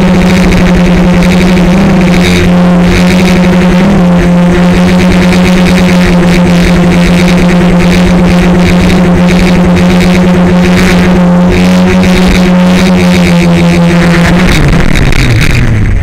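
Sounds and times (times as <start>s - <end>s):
quadcopter motors humming: 0.0s - 16.0s.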